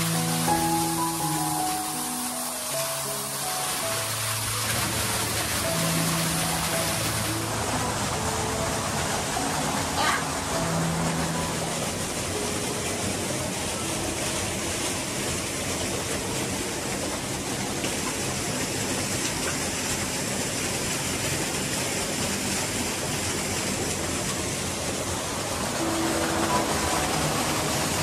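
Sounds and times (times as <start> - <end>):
running water rushing: 0.0 - 28.0.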